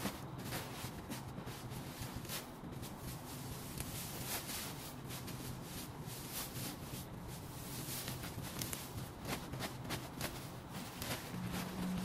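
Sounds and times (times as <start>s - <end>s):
dry grass crackling and rustling: 0.0s - 12.0s
faint low hum: 0.0s - 12.0s.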